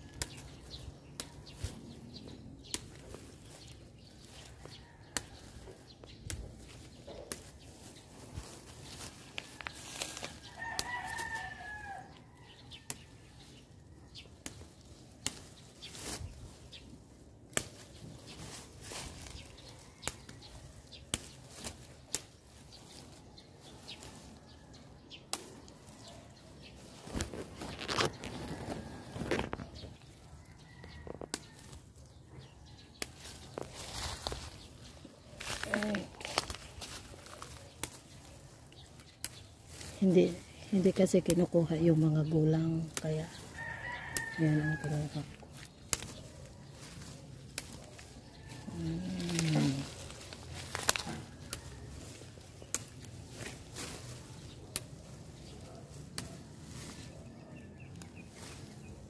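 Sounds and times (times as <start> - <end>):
rustling in dry grass: 0.0 - 59.0
twigs snapping: 0.0 - 59.0.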